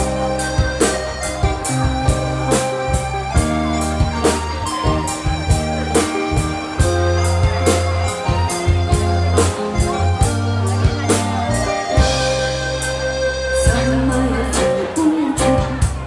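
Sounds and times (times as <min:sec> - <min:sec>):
instrumental pop music: 0:00.0 - 0:16.0.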